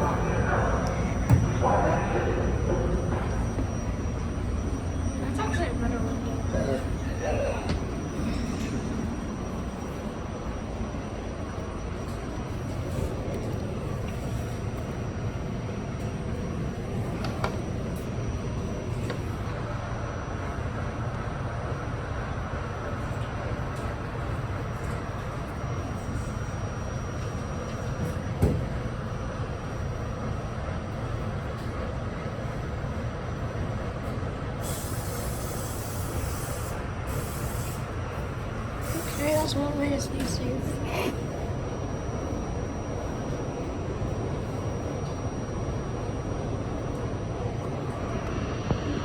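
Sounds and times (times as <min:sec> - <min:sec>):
subway train wheels rumbling: 0:00.0 - 0:49.0.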